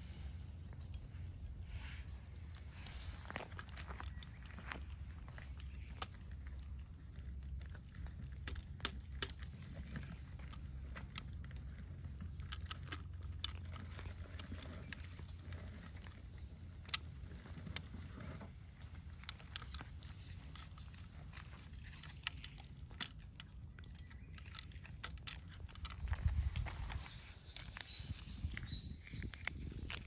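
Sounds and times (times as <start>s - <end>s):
cat chewing food: 0.5s - 30.0s.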